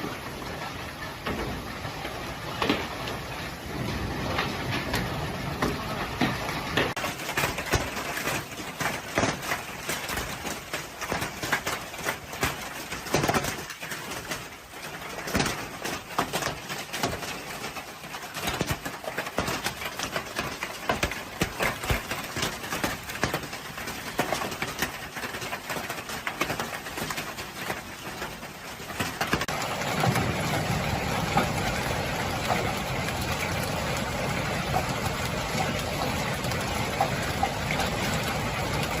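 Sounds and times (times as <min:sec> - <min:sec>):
hailstones pelting hard surfaces: 0:00.0 - 0:39.0
steady hiss of rain: 0:00.0 - 0:39.0.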